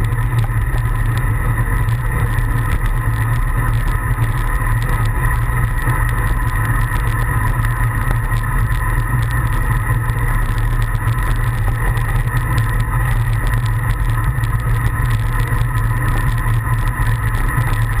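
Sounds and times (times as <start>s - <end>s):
bike tyres on asphalt: 0.0s - 18.0s
wind rush on microphone: 0.0s - 18.0s.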